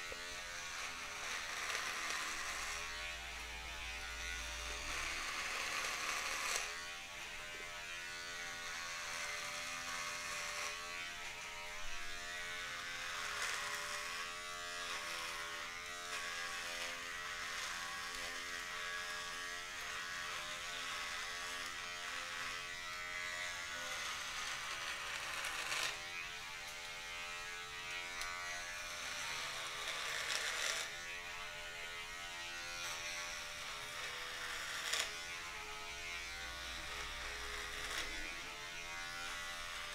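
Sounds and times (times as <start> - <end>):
electric beard trimmer buzzing: 0.0 - 39.9.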